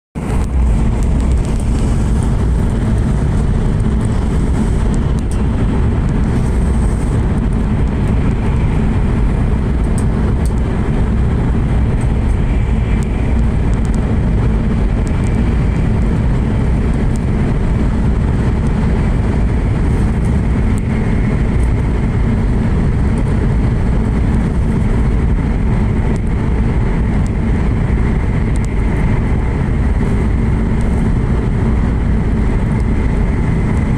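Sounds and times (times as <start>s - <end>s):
train rumbling in tunnel: 0.2s - 33.9s.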